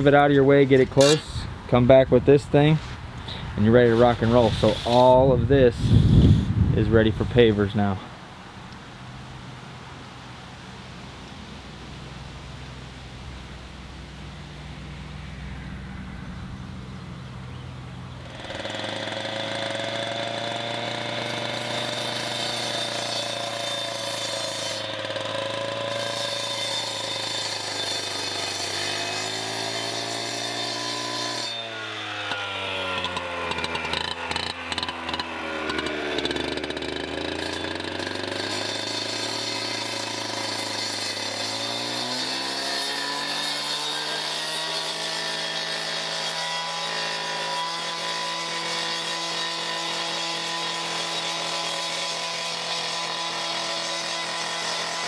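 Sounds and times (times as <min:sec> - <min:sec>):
cut-off saw cutting concrete: 0:00.0 - 0:07.9, 0:18.2 - 0:55.0.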